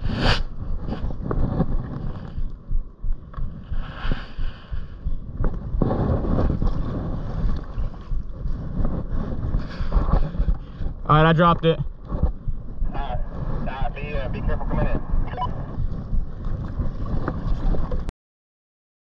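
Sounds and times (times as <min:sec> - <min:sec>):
water lapping against a kayak: 0:00.0 - 0:18.1
wind buffeting the microphone: 0:00.0 - 0:18.1.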